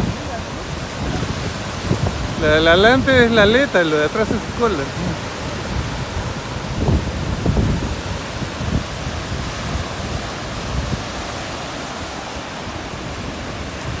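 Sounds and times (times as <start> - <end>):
surf waves washing on beach: 0.0 - 14.0
wind buffeting microphone: 0.0 - 14.0.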